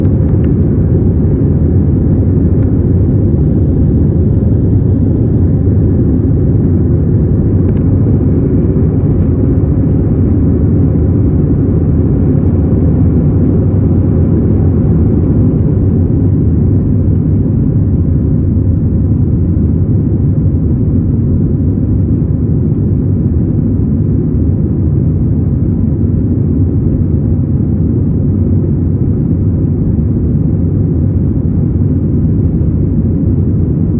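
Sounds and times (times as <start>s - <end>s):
airliner engines rumbling: 0.0s - 33.9s.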